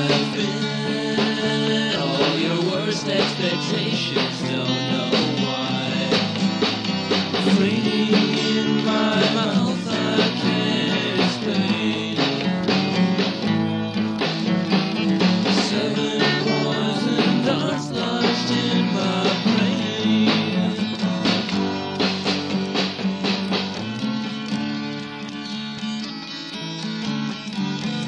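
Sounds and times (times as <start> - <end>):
guitar-led band song: 0.0 - 28.0.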